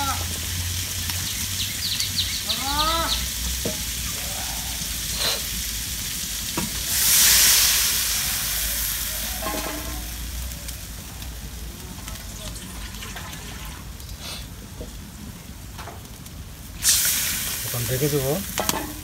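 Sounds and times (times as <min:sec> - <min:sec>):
potatoes frying in oil: 0:00.0 - 0:19.0
water hissing in hot pan: 0:00.0 - 0:19.0.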